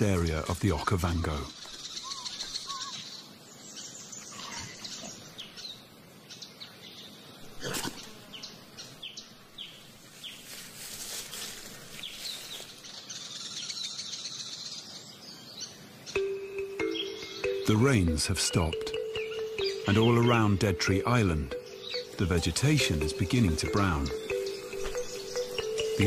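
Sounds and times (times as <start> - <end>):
small birds chirping: 0.0 - 26.0
high insect buzz: 1.6 - 26.0.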